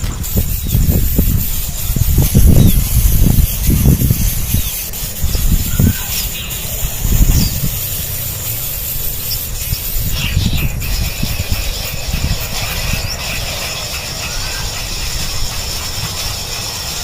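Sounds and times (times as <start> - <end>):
nestling birds cheeping: 0.0 - 17.0
steady high hiss: 0.0 - 17.0.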